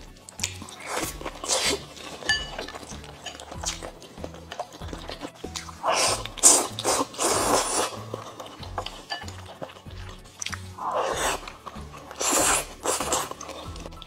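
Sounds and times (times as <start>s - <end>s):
soft background music: 0.0s - 14.0s
noodles slurped: 0.3s - 14.0s.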